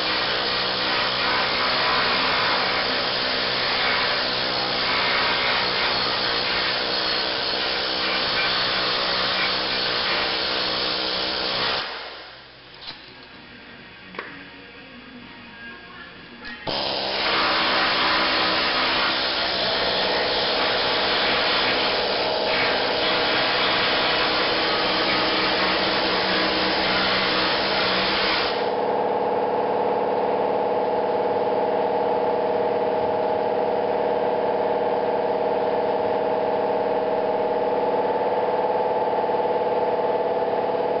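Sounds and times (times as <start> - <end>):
steady machine hum: 0.0 - 41.0.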